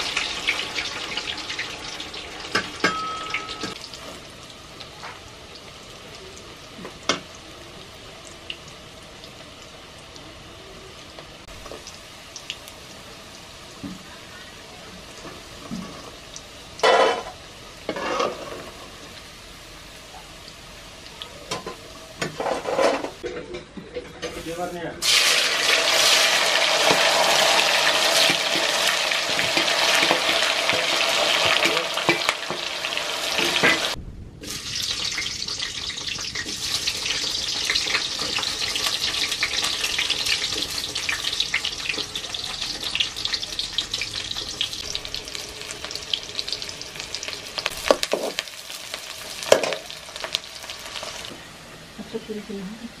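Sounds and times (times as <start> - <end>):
cheese sizzling in hot oil: 0.0 - 23.2, 24.4 - 51.4
onions frying: 0.0 - 23.2, 24.2 - 53.0.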